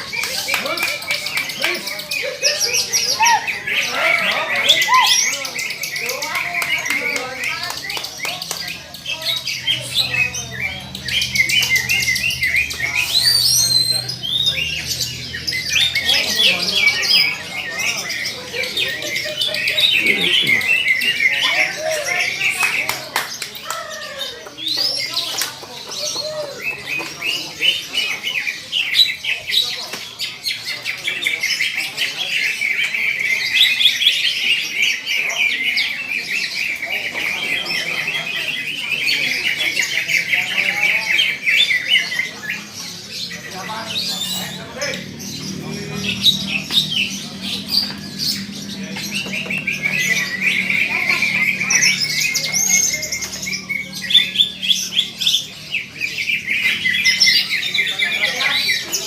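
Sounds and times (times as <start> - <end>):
caged birds chirping and trilling: 0.0 - 59.0.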